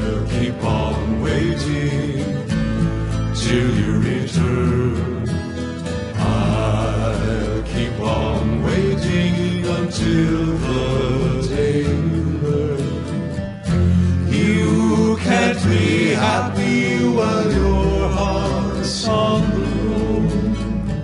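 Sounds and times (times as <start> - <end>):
acoustic guitar: 0.0 - 21.0
people singing: 0.0 - 21.0
upright bass: 0.0 - 21.0.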